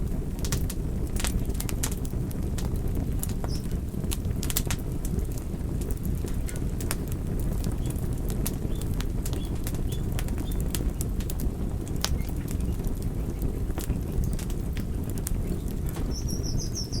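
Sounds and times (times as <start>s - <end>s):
fire crackles and pops: 0.0s - 17.0s
low rush of flames: 0.0s - 17.0s.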